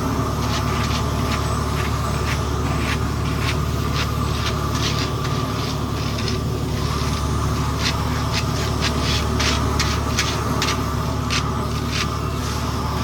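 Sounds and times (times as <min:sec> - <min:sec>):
paving machine engine hum: 0:00.0 - 0:13.0.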